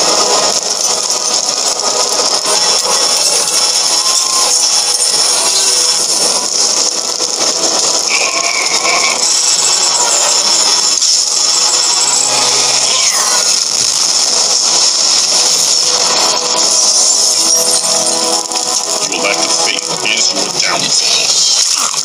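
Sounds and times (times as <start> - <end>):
sparks and fire hissing: 0.0 - 22.0.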